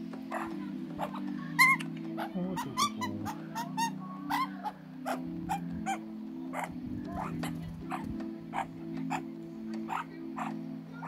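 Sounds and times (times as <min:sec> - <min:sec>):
background music: 0:00.0 - 0:11.0
magpie calling: 0:00.3 - 0:11.0.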